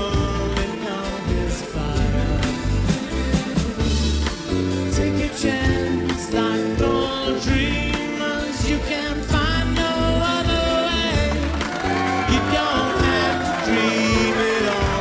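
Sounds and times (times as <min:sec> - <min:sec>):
bass and drums: 0:00.0 - 0:15.0
person singing lead vocal: 0:00.0 - 0:15.0.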